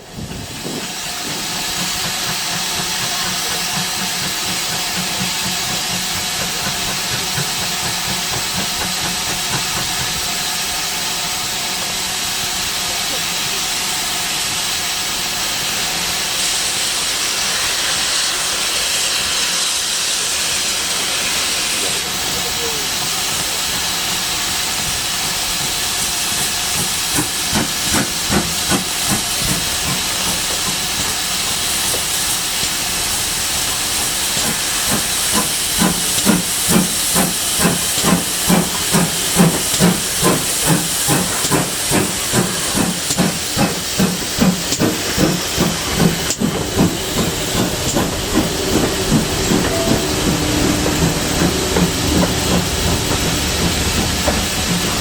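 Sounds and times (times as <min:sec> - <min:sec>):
steam hissing: 0:00.0 - 0:55.0
locomotive exhaust chuffing: 0:00.3 - 0:55.0.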